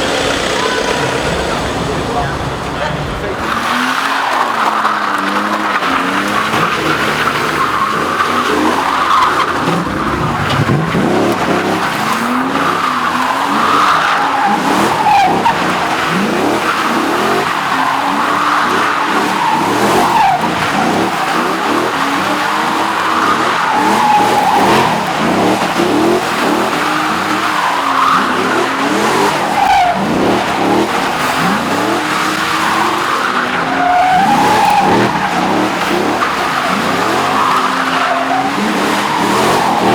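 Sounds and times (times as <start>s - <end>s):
car engine revving: 0.0s - 39.9s
tyres squealing: 0.0s - 39.9s.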